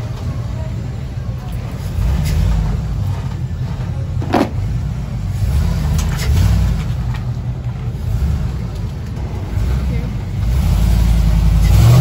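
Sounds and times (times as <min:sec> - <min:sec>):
pickup truck exhaust rumble: 0:00.0 - 0:12.0.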